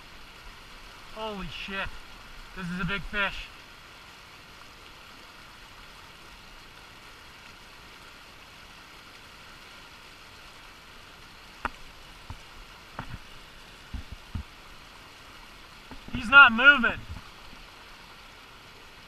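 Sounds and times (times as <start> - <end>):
river water rushing over rocks: 0.0 - 19.0.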